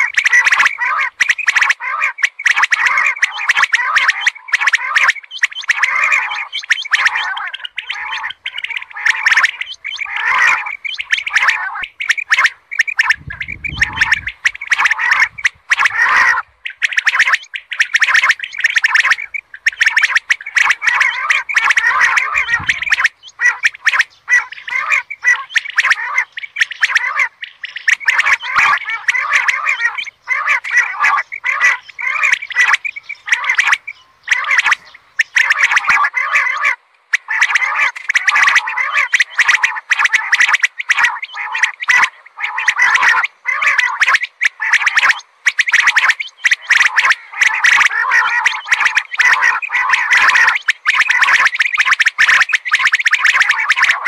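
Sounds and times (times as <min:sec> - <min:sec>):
quail calling: 0:00.0 - 0:54.0.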